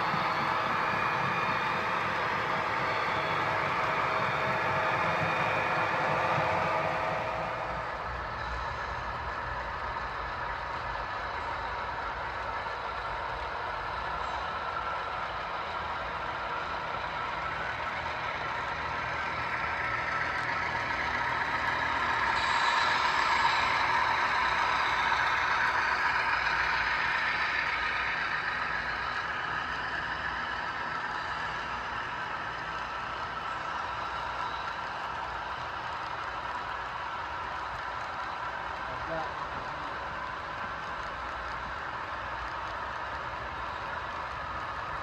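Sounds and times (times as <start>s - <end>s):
model train diesel engine: 0.0s - 45.0s
train cars rumbling on track: 0.0s - 45.0s.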